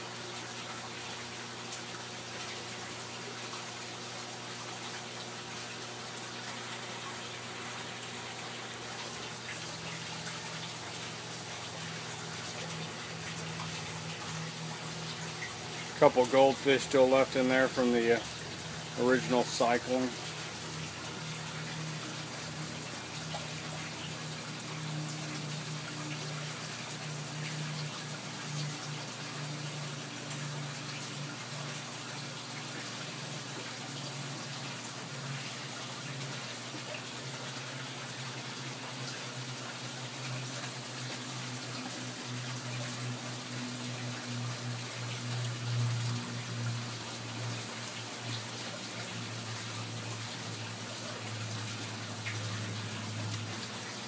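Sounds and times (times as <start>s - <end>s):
water running and splashing: 0.0s - 54.0s.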